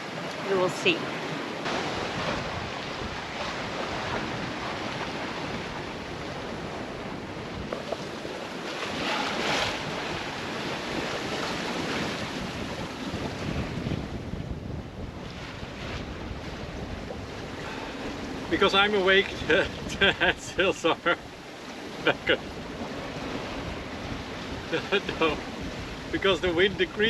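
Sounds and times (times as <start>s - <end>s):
waves washing: 0.0s - 27.0s
wind on microphone: 0.0s - 27.0s.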